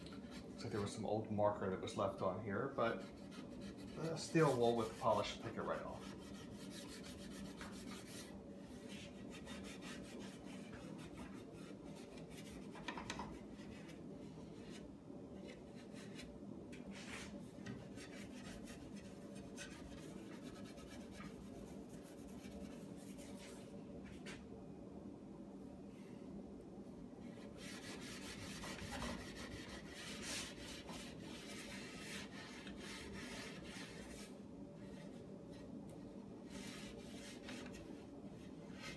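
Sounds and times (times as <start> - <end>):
steel wool scratching on wood: 1.9 - 24.3, 27.2 - 38.9.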